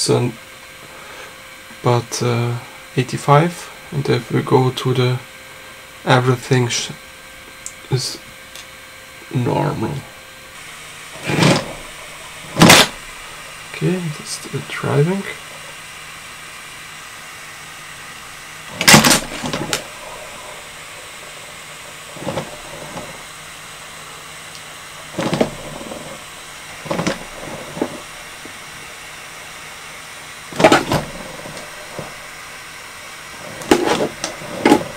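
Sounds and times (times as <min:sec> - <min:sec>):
robot motor and wheel noise: 0:00.4 - 0:34.9.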